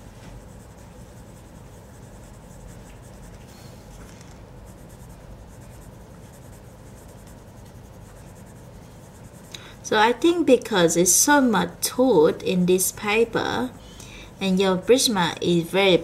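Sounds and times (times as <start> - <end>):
coloured pencil scratching on paper: 0.0 - 13.8.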